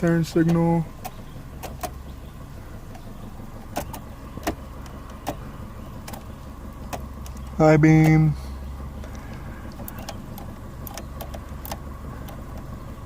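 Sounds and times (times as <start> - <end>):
low steady hum: 0.0 - 13.0
turn signal clicking: 0.0 - 13.0.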